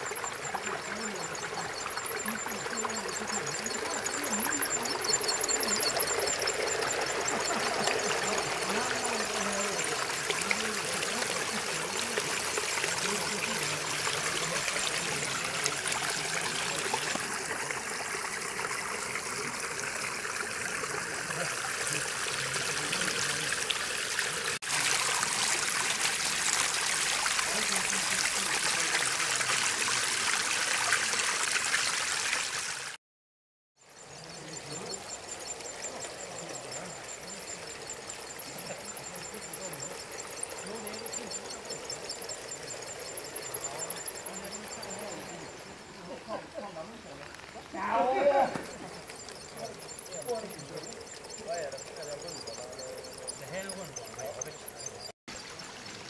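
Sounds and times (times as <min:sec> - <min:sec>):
fountain water trickling and splashing: 0:00.0 - 0:33.0, 0:33.9 - 0:56.0.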